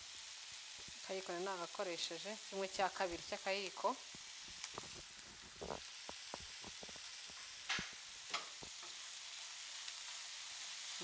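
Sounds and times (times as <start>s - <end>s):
vegetables sizzling in a frying pan: 0.0s - 11.0s.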